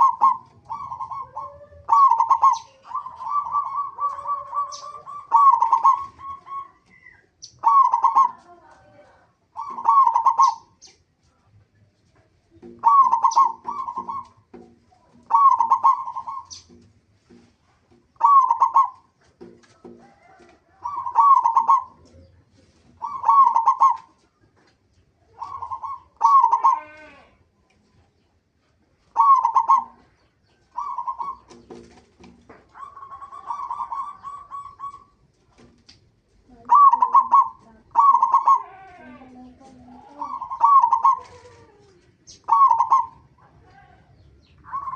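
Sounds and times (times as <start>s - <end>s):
doves cooing: 0.0s - 10.8s, 12.5s - 27.4s, 28.6s - 35.8s, 36.4s - 44.9s.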